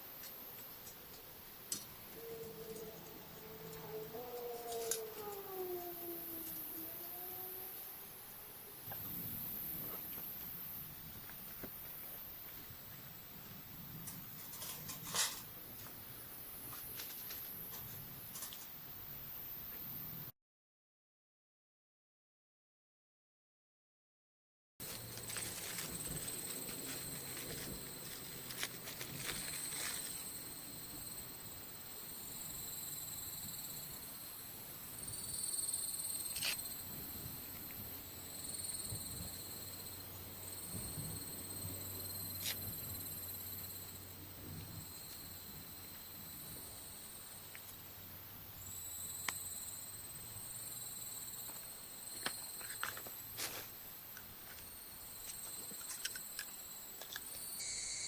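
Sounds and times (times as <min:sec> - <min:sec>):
insects chirping: 0:00.0 - 0:20.3, 0:24.8 - 0:58.0.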